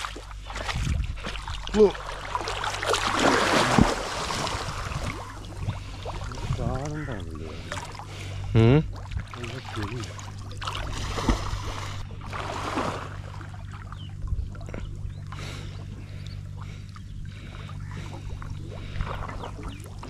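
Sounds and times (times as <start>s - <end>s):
steady low hum: 0.0s - 20.0s
water sloshing and splashing: 0.0s - 20.0s.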